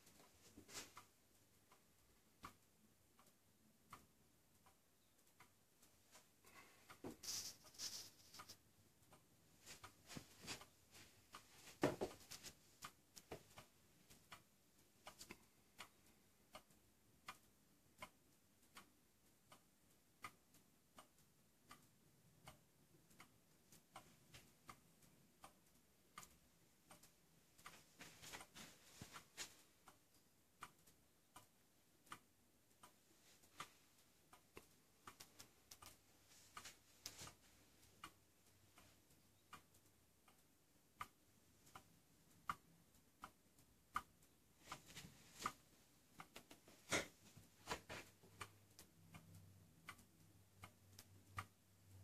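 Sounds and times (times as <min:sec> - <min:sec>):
wall clock ticking: 0:00.0 - 0:52.0.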